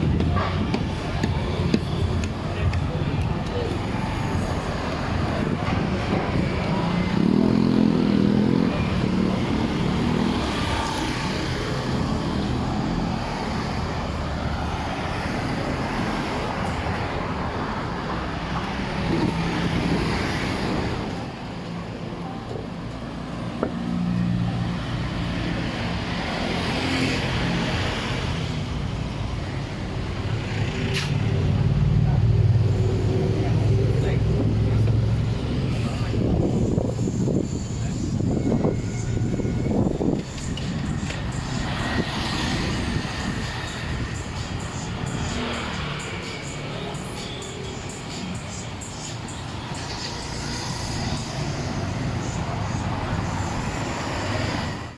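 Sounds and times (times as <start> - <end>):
cars and motorbikes passing: 0.0 - 54.9
road hum: 0.0 - 54.9.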